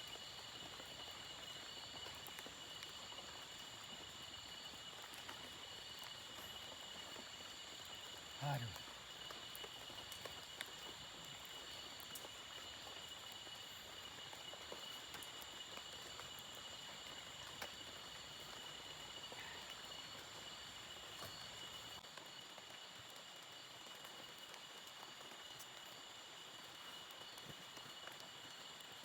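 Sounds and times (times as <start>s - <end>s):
faint hiss: 0.0s - 29.0s
insect chorus: 0.0s - 29.0s
small ticks: 0.0s - 29.0s.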